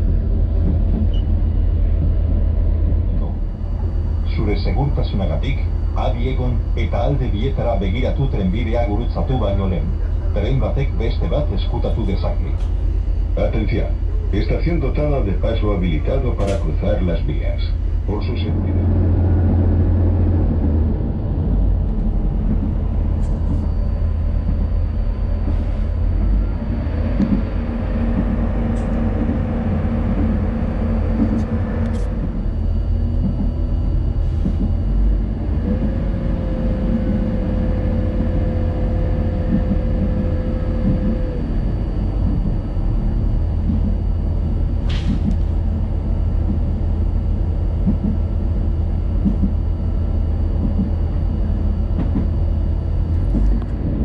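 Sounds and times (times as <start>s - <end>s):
held whine: 0.0s - 54.0s
train rumble: 0.0s - 54.0s.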